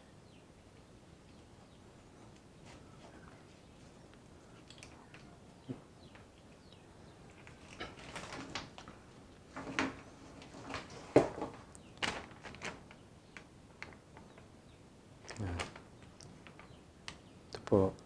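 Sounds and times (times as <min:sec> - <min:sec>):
rustles and clicks of handling: 0:01.2 - 0:14.5, 0:15.2 - 0:18.0.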